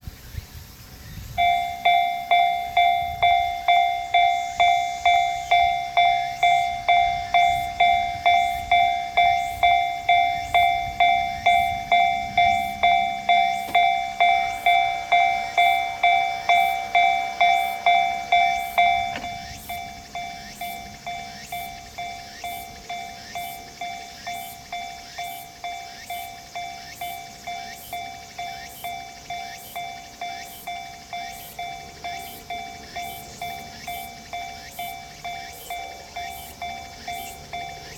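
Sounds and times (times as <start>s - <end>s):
level crossing warning bell: 1.4s - 37.9s.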